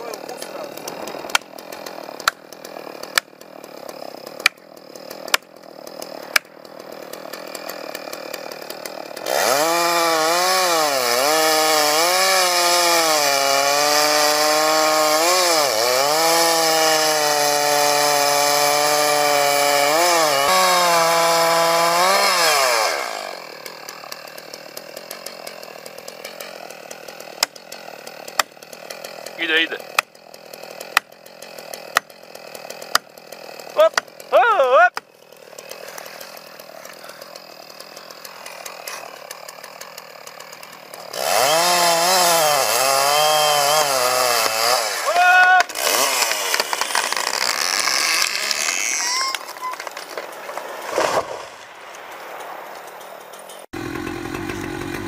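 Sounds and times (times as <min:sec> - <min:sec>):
chainsaw cutting: 0:00.0 - 0:55.0.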